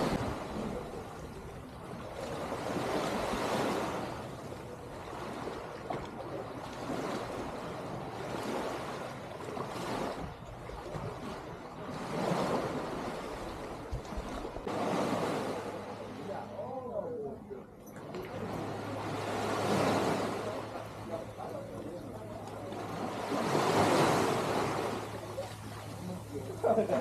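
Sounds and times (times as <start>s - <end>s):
small waves washing on beach: 0.0s - 17.1s, 17.9s - 27.0s.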